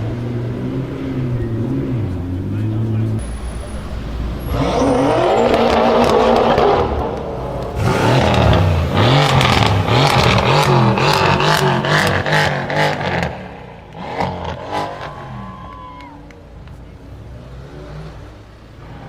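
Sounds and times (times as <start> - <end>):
car engine revving hard: 0.0 - 15.6, 17.0 - 19.0.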